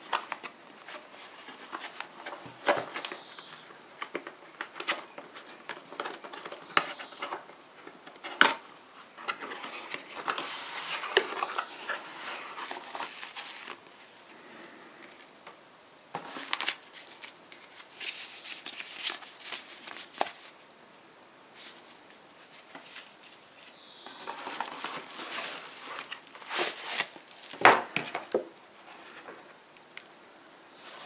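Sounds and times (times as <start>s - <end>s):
paper rustling: 0.0s - 14.2s, 16.1s - 20.6s, 21.6s - 29.6s.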